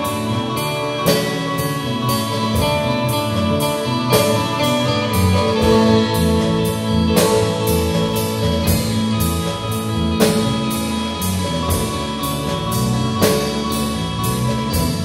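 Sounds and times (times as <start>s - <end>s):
slow rock band playing: 0.0s - 15.0s.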